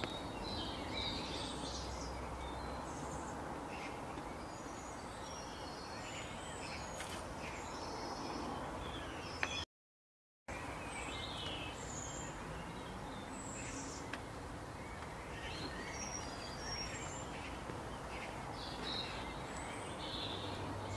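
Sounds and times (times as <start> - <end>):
outdoor background hiss: 0.0 - 9.6, 10.5 - 20.9
birds chirping: 0.0 - 9.7, 10.5 - 20.9.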